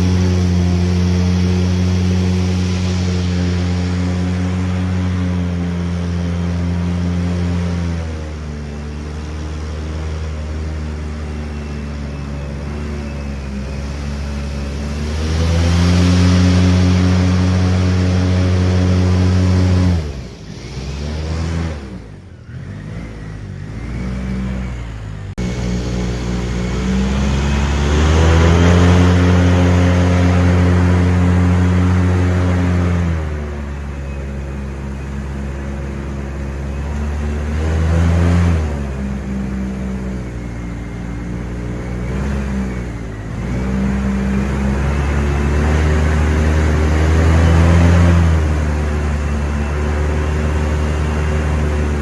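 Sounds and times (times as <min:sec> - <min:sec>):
airboat engine and propeller: 0:00.0 - 0:52.0.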